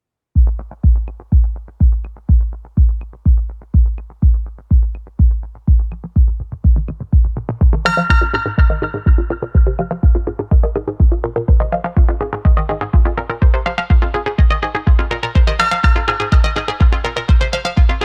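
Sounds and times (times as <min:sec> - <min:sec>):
kick drum: 0:00.4 - 0:18.0
synth chords: 0:00.4 - 0:18.0.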